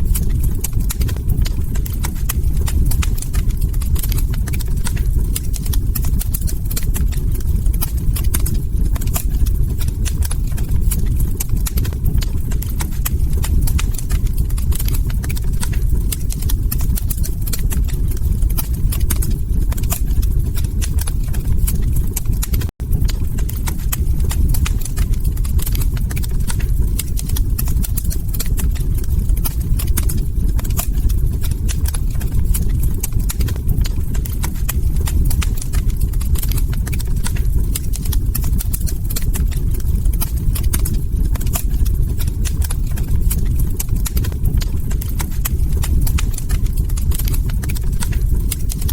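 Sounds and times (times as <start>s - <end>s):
log fire crackling: 0.0s - 48.9s
low rumble: 0.0s - 48.9s.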